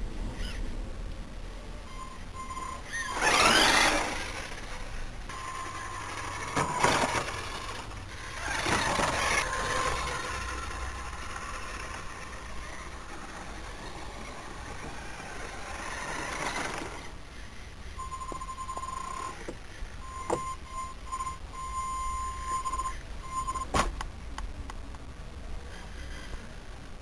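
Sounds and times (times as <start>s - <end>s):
rc car motor whining: 1.9s - 23.6s.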